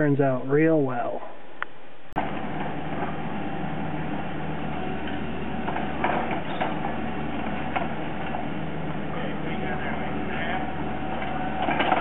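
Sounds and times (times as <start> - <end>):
diesel engine running: 2.2 - 12.0.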